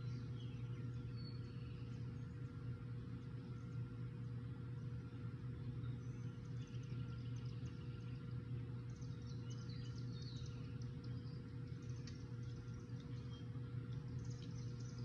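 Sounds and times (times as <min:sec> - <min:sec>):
low outdoor hum: 0:00.0 - 0:15.0
small birds chirping: 0:00.0 - 0:15.0.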